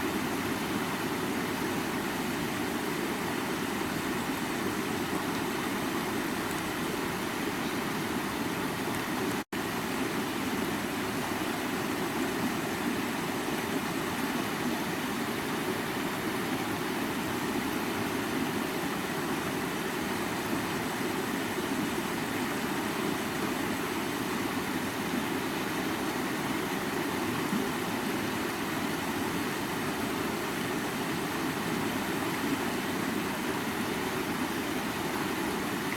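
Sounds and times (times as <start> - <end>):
stream water babbling: 0.0 - 35.9.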